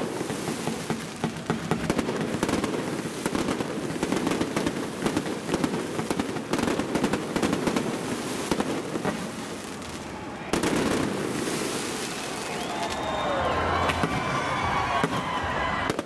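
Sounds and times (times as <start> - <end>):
fireworks cracking and bursting: 0.0 - 16.0.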